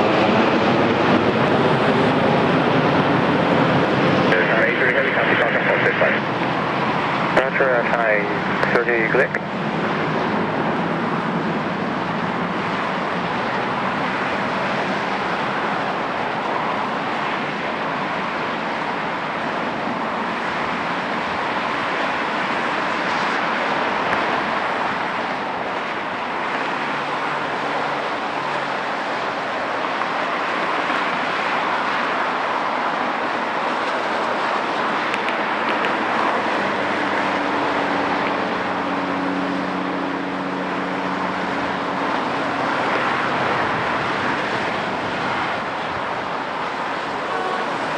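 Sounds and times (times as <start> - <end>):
jet engine rushing: 0.0 - 47.9.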